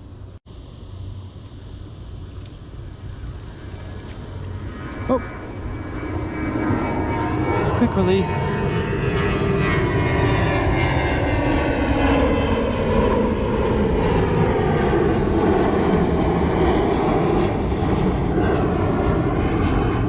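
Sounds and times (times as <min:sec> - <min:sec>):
industrial machinery drone: 0:00.0 - 0:20.0.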